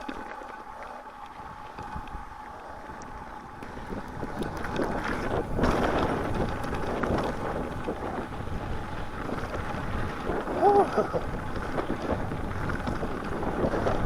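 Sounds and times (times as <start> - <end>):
bike rattles and clicks: 0.0 - 14.0
bike tyres rolling on trail: 0.0 - 14.0
wind buffeting microphone: 1.3 - 14.0.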